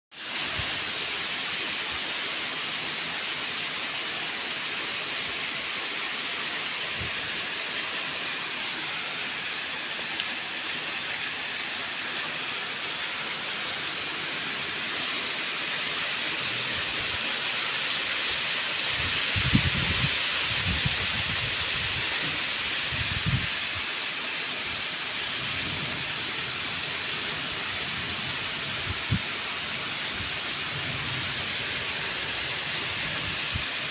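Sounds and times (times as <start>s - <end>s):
rain falling on foliage: 0.1s - 33.9s.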